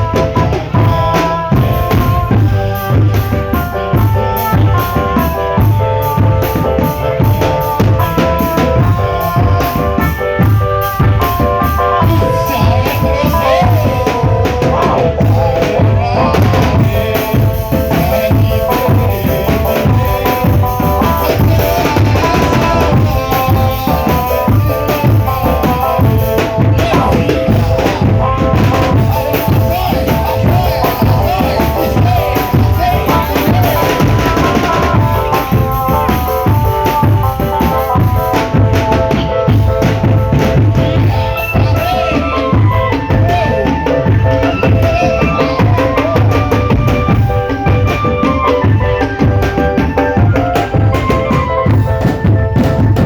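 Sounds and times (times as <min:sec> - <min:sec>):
bass and snare drums beating: 0:00.0 - 0:53.0.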